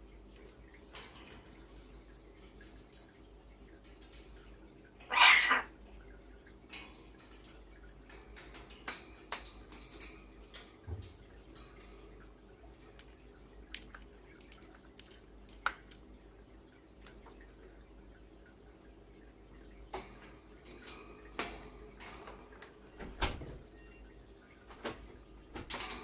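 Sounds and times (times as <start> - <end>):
faint clicks and ticks: 0.0 - 5.0, 5.8 - 26.0.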